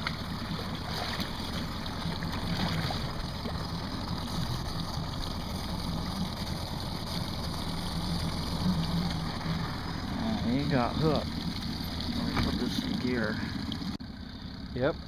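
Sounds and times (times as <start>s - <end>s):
outboard motor idling: 0.0s - 15.0s
water around boat: 0.0s - 15.0s.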